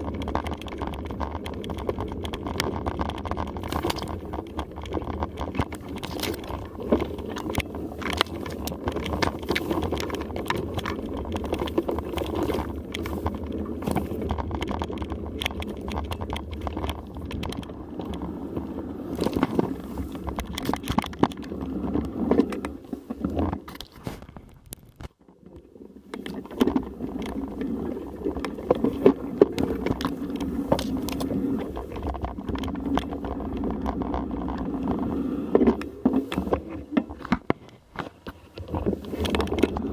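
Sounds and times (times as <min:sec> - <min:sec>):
bike tyres rumbling on dirt: 0:00.0 - 0:25.2, 0:25.9 - 0:39.9
bike rattling and clicking: 0:00.0 - 0:39.9.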